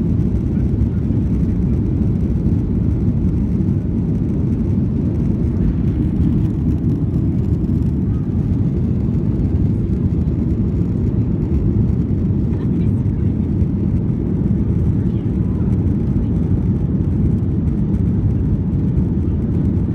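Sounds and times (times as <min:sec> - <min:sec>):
jet engine rumble in cabin: 0:00.0 - 0:19.9.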